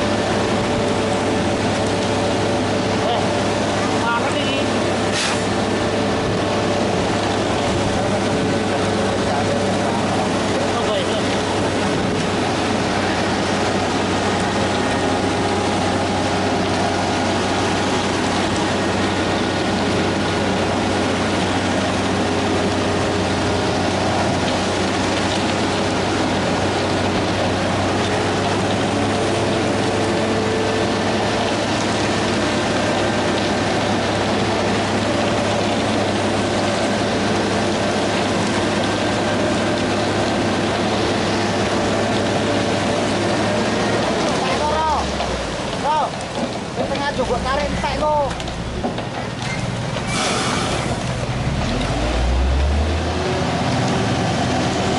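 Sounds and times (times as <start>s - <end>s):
heavy construction machinery running: 0.0s - 54.9s.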